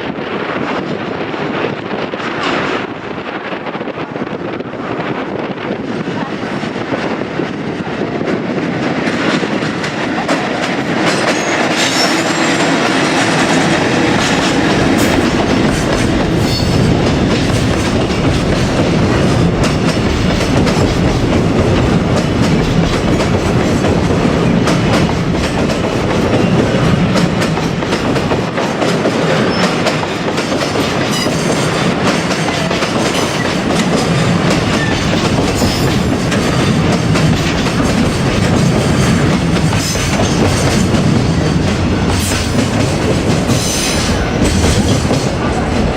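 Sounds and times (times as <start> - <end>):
freight train wheels clacking: 2.0 - 45.9.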